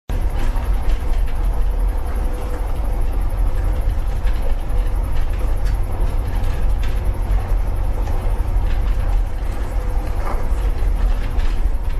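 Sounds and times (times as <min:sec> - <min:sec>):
truck engine rumbling: 0:00.1 - 0:11.9.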